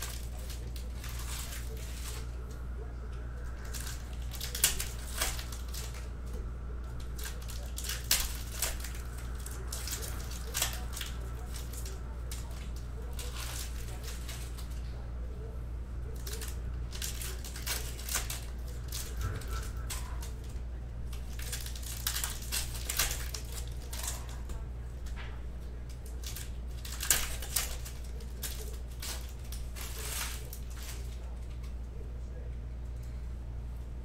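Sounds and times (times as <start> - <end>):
foil wrappers torn and crinkled: 0.0 - 31.8
steady low hum: 0.0 - 34.0.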